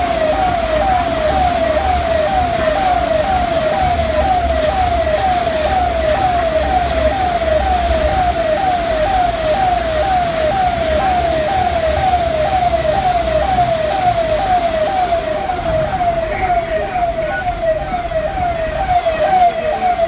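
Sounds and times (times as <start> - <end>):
electronic siren falling tone: 0.0 - 20.0.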